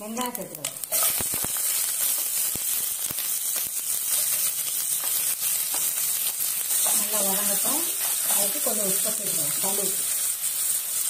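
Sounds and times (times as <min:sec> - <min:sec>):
onions frying in hot oil: 0:00.0 - 0:11.0.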